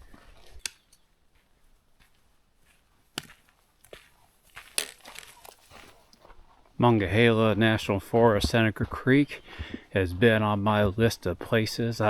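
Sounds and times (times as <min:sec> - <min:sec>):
footsteps on rocky trail: 0:00.0 - 0:12.0.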